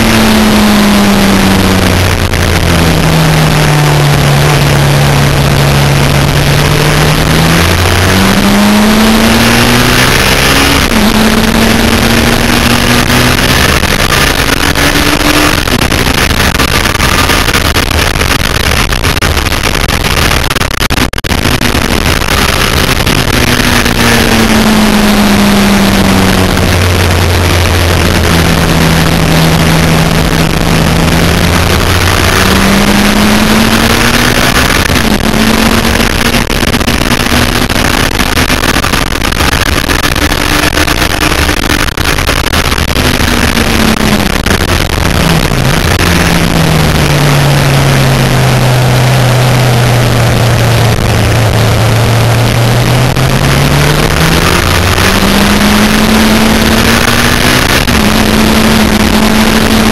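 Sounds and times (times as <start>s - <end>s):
motorcycle engine at speed: 0.0s - 59.9s.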